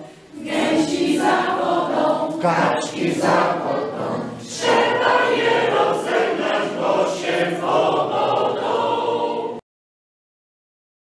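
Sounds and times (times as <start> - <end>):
mixed choir singing folk song: 0.0 - 9.6.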